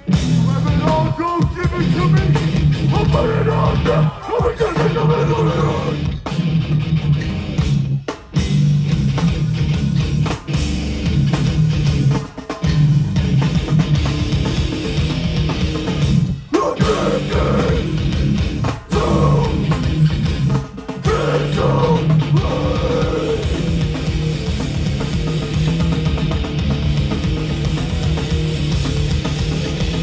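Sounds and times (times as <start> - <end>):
hardcore band playing live: 0.0 - 30.0.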